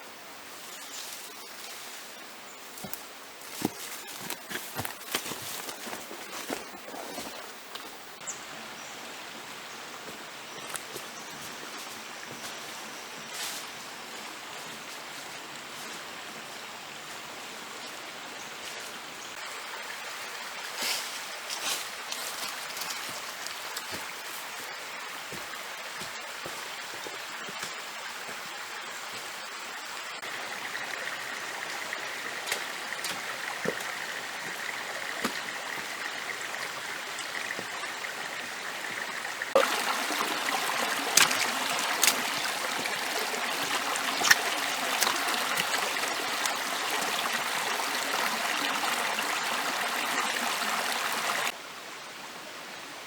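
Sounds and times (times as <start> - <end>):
stream water running: 0.0 - 52.0.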